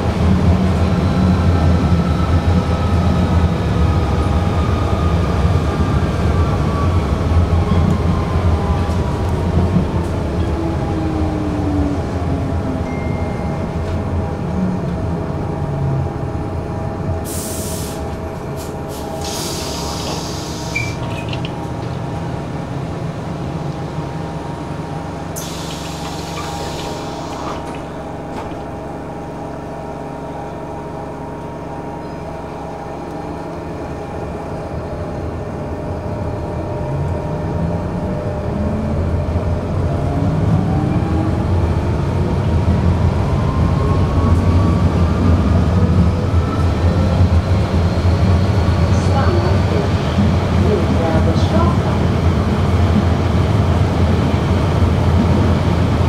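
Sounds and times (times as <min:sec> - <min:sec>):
tram motor whine: 0:00.0 - 0:56.0
tram running rumble: 0:00.0 - 0:56.0.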